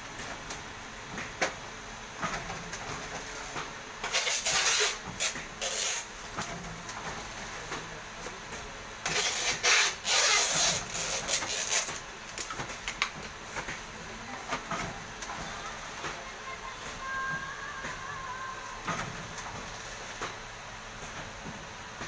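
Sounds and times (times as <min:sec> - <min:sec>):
packing machine running: 0:02.2 - 0:22.0.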